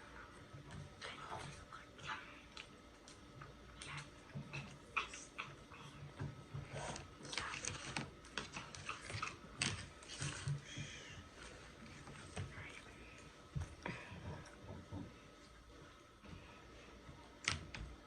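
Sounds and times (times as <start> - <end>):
mouth chewing food: 0.4 - 15.6.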